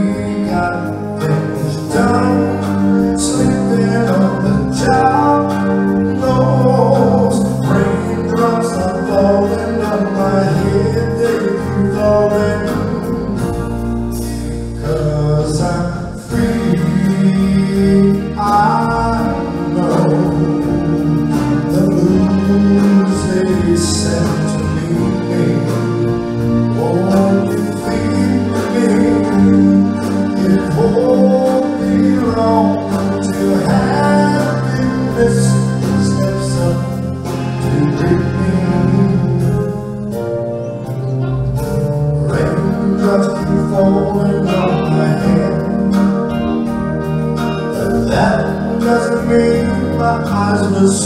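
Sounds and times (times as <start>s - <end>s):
man singing slow song: 0.0s - 41.0s, 41.9s - 51.0s
band playing: 0.0s - 51.0s.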